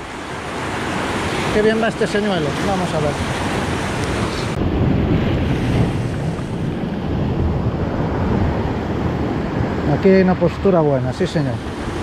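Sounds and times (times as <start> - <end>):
surf washing against rocky shore: 0.0 - 12.0
wind rumbling on microphone: 0.0 - 12.0.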